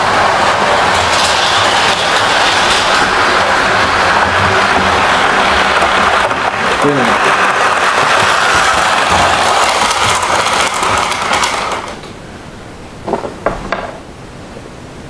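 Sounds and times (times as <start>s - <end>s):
model train running on track: 0.0s - 12.1s.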